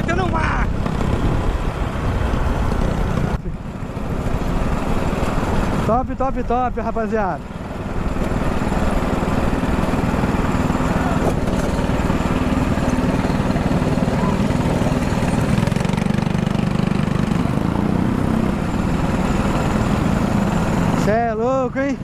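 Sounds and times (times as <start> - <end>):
go-kart engine running: 0.0 - 22.0.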